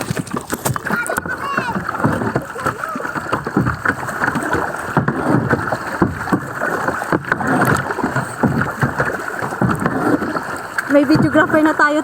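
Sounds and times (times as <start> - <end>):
water sloshing around kayak: 0.0 - 12.0.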